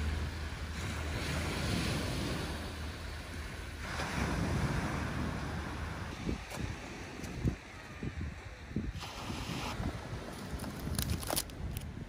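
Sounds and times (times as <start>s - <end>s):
sea waves washing onto shore: 0.0s - 11.8s
wind rumbling on microphone: 0.0s - 12.0s.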